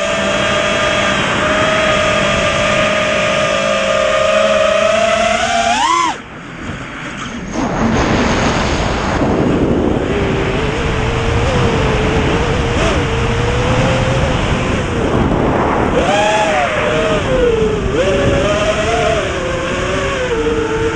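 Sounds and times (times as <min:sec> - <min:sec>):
drone motors whining: 0:00.0 - 0:20.9
steady rushing noise: 0:00.0 - 0:20.9.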